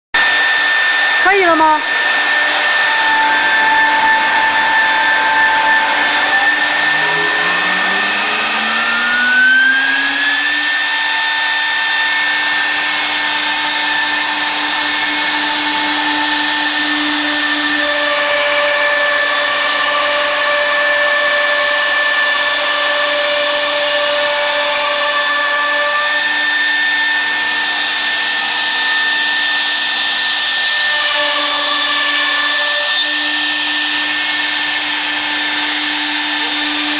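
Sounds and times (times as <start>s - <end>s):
router bit hissing through wood: 0.2s - 36.9s
router spindle whining: 0.2s - 36.9s.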